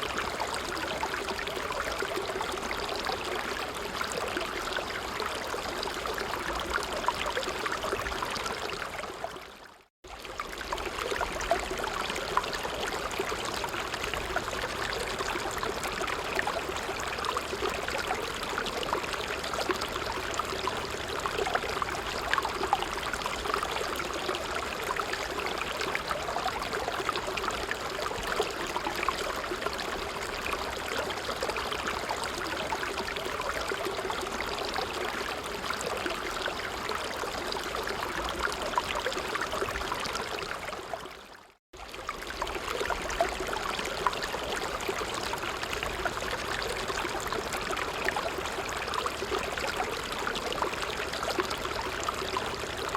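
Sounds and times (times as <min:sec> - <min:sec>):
stream babbling over stones: 0:00.0 - 0:52.9.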